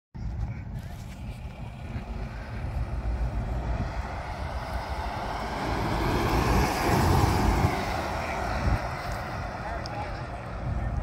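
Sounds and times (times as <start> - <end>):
car driving past: 1.5 - 11.0.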